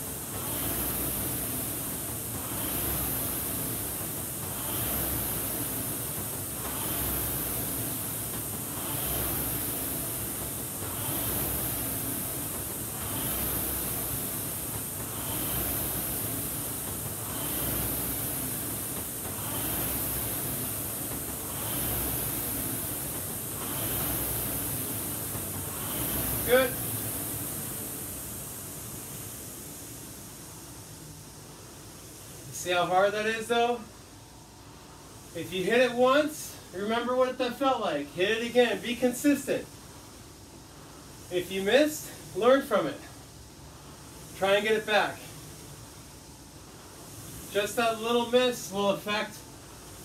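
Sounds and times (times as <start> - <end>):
rowing machine flywheel whooshing: 0.0 - 50.0.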